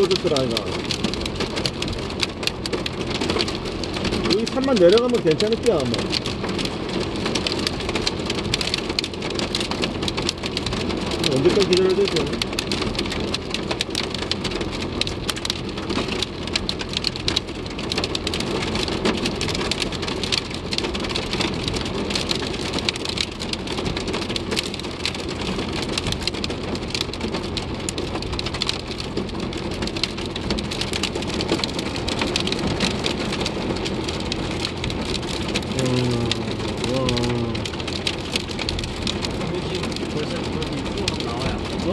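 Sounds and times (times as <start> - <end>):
hail and rain on car roof: 0.0 - 41.9.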